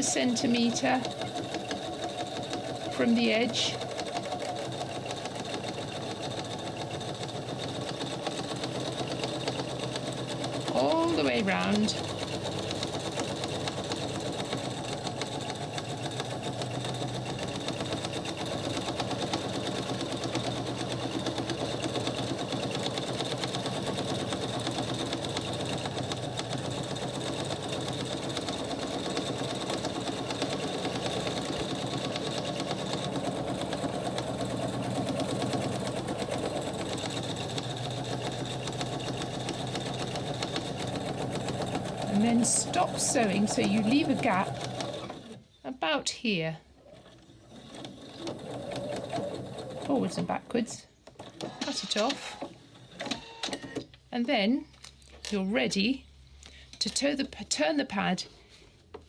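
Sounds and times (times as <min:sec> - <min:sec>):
sewing machine stitching: 0:00.0 - 0:45.5, 0:46.8 - 0:53.8.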